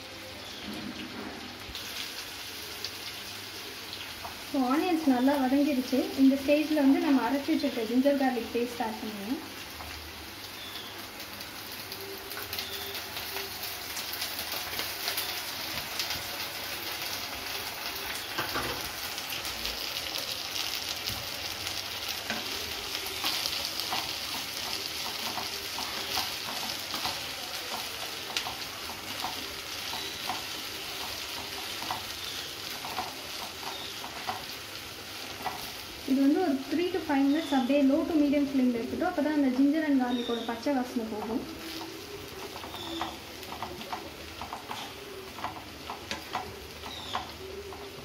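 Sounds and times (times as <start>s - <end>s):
onions sizzling in hot oil: 0.0s - 48.0s.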